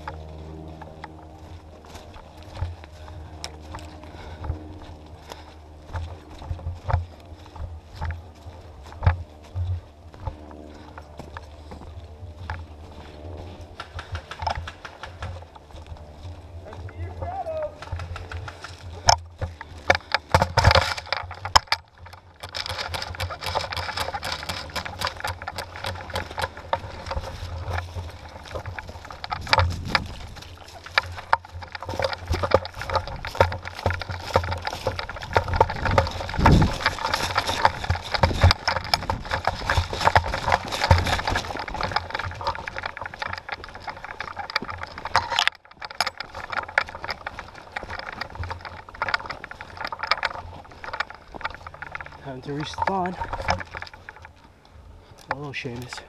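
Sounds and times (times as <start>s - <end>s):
footsteps through dry leaves: 0.0s - 56.0s.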